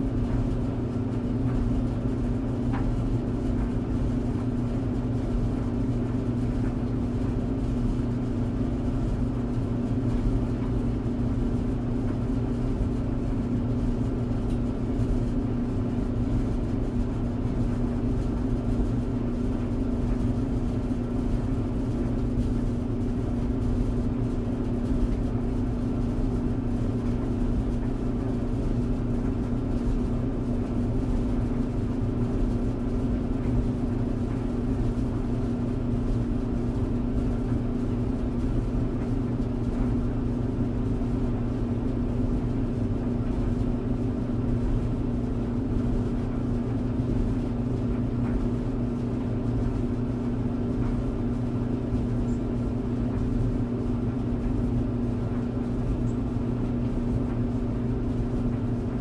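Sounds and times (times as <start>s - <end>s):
tumble dryer running: 0.0s - 59.0s.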